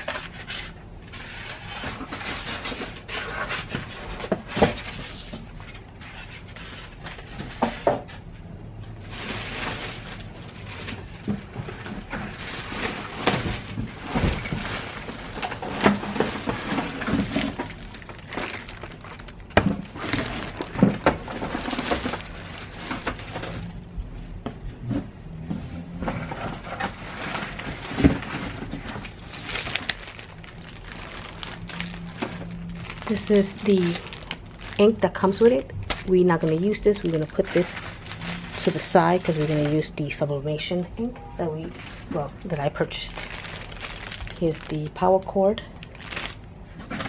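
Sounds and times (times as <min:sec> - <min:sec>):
plastic and packing rustling: 0:00.0 - 0:47.0.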